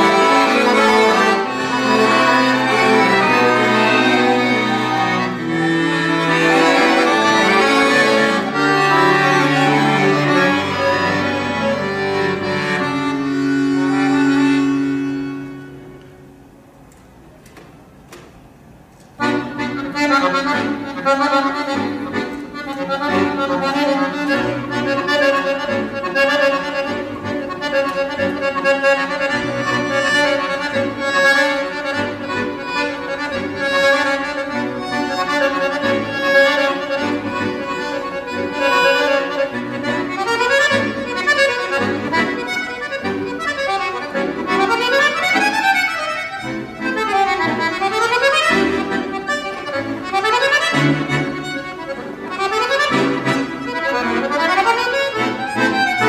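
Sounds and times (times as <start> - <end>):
accordion playing: 0.0 - 16.8, 19.1 - 56.0.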